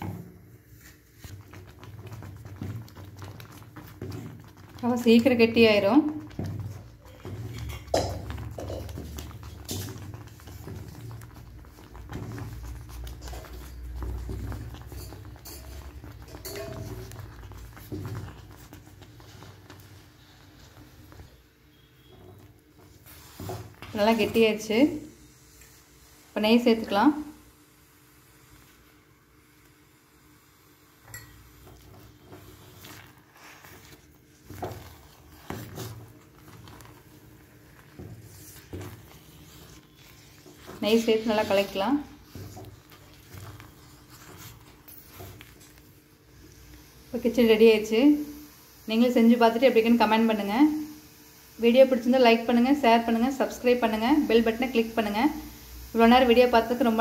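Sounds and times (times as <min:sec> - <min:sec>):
spoon stirring in clay pot: 0:00.0 - 0:27.4, 0:30.6 - 0:51.0
ladle squishing thick food: 0:00.0 - 0:57.0.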